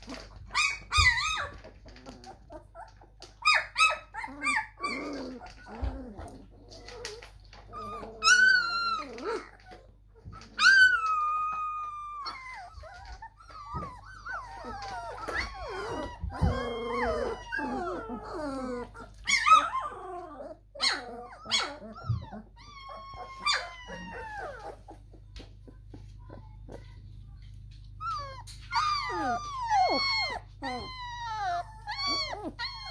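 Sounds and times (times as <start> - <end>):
puppies whining and yelping: 0.0 - 32.9.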